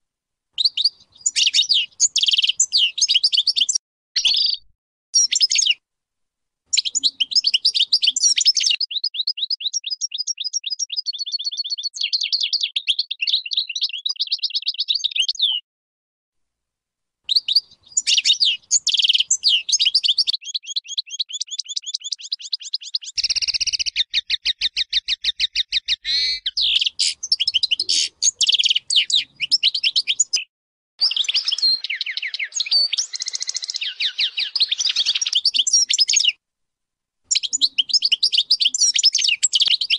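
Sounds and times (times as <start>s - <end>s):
goldfinch singing: 0.6s - 5.8s, 6.7s - 15.6s, 17.3s - 30.4s, 31.0s - 36.4s, 37.3s - 39.9s.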